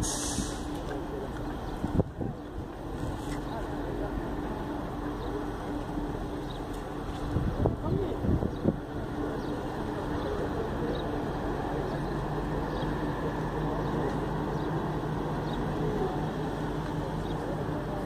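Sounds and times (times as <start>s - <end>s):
open-air background noise: 0.0s - 18.0s
vehicle engine humming: 0.0s - 18.0s.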